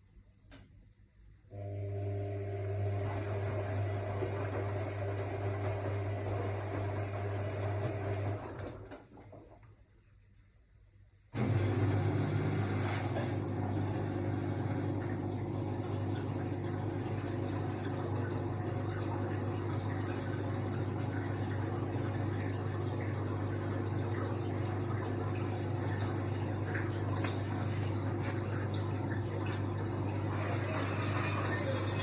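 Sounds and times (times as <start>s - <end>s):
washing machine humming: 1.5s - 9.9s, 11.3s - 32.0s.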